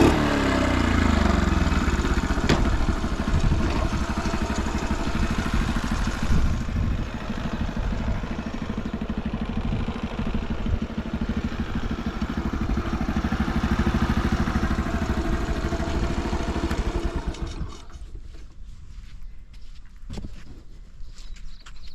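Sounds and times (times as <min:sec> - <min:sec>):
motorcycle engine idling: 0:00.0 - 0:18.2.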